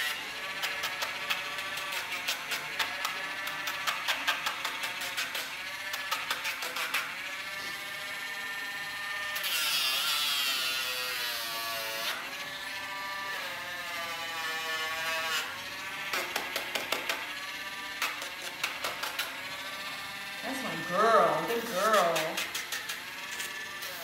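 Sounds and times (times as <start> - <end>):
rotary nail grinder whining: 0.0 - 24.0.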